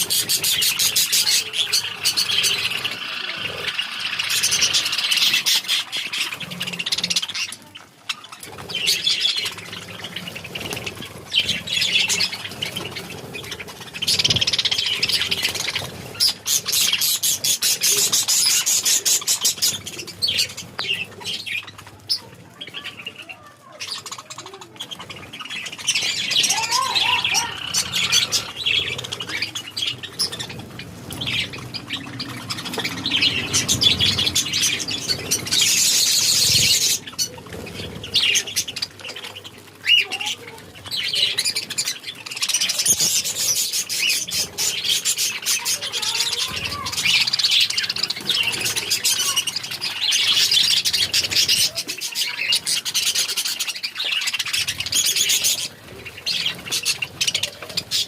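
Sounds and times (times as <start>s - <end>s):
parrots chirping and squawking: 0.0s - 58.0s.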